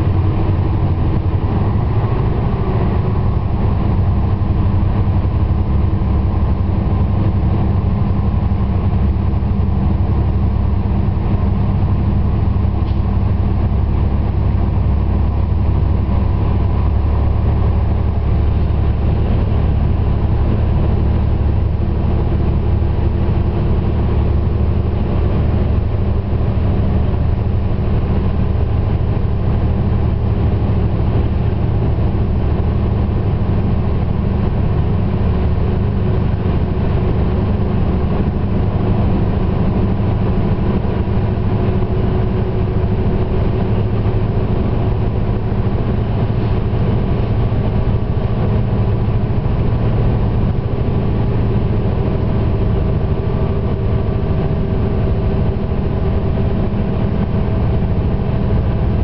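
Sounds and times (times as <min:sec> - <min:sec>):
railcar diesel engines: 0:00.0 - 0:59.0
wheels rumbling on rails: 0:00.0 - 0:59.0.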